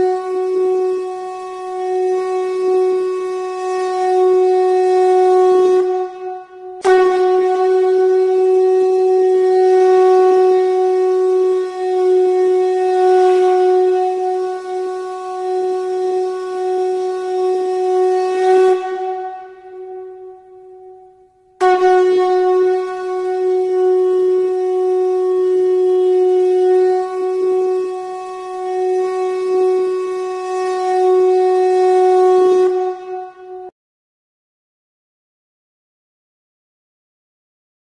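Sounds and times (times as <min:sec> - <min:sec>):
conch shell blown: 0:00.0 - 0:33.7
wind instrument holding a note: 0:00.0 - 0:33.7.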